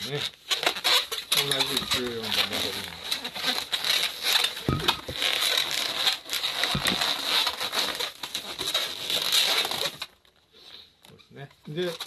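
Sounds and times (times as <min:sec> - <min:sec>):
balloon squeaking and rubbing: 0:00.0 - 0:10.1.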